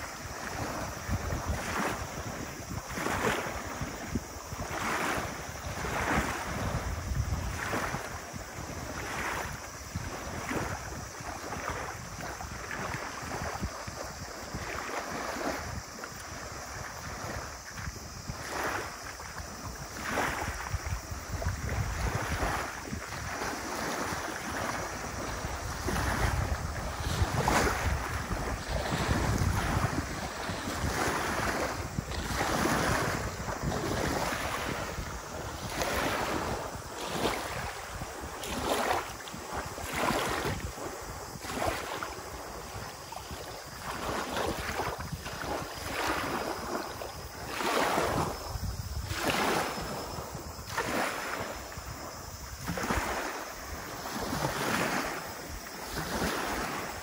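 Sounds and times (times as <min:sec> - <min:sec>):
waves lapping on gravel beach: 0:00.0 - 0:57.0
wind rumble on microphone: 0:00.0 - 0:57.0.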